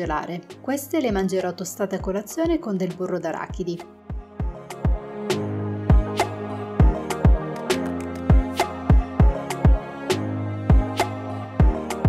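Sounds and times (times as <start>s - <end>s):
instrumental music with drum beat: 2.0s - 12.0s.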